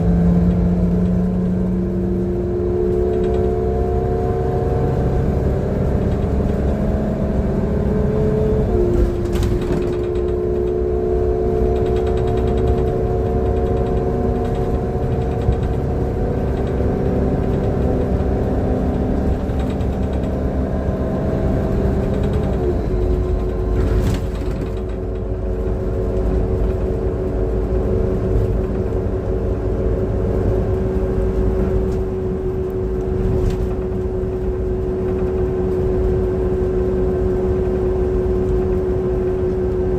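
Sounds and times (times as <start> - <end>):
bus engine rumble and whine: 0.0 - 39.9.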